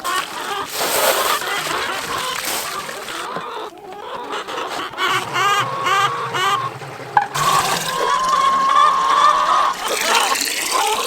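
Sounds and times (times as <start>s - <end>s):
hens clucking: 0.0s - 11.0s
water running into waterer: 0.0s - 11.0s.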